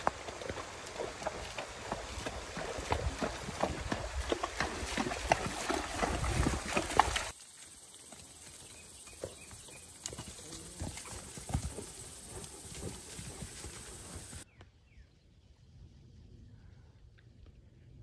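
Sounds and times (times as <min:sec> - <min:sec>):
hooves splashing in river: 0:00.0 - 0:14.4
hooves on grass and dirt: 0:00.0 - 0:14.5.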